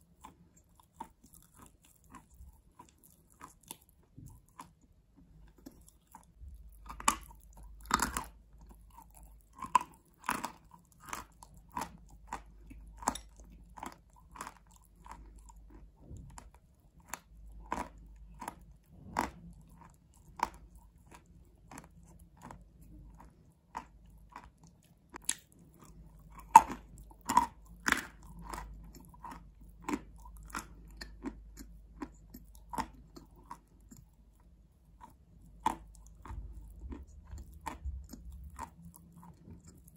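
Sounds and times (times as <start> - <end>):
crisp chewing crunches: 0.0 - 39.9.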